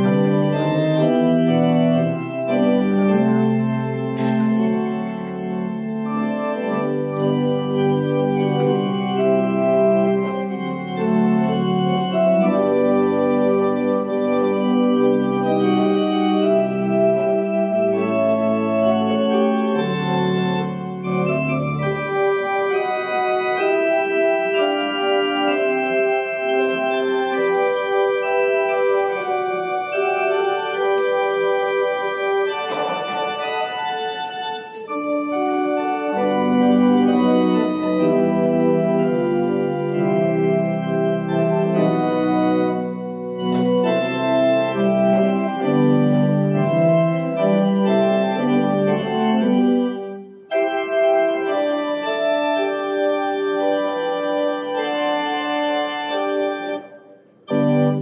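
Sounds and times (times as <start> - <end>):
low organ bass part: 0.0 - 50.0
organ sustained chords: 0.0 - 58.0.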